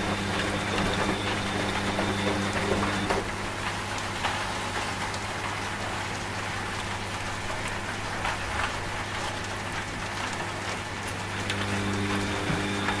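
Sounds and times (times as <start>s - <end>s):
steady rain: 0.0s - 13.0s
washing machine humming: 0.0s - 13.0s.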